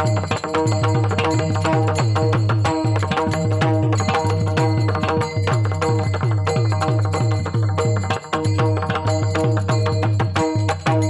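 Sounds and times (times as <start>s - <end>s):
hand drum beating: 0.0s - 11.0s.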